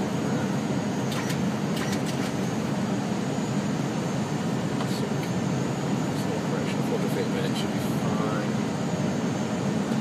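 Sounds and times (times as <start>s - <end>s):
cockpit engine and airflow noise: 0.0s - 10.0s
faint high whine: 0.0s - 10.0s.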